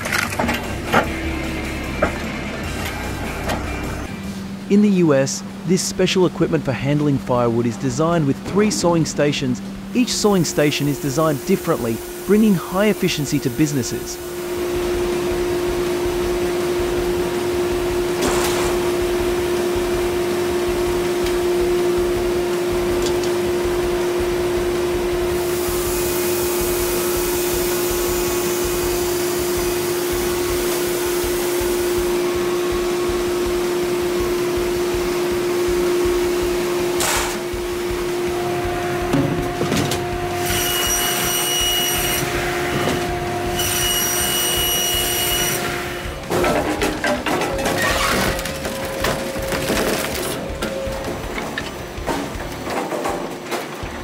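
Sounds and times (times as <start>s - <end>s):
higher machine hum with whine: 0.0s - 54.0s
low machine hum: 0.0s - 54.0s.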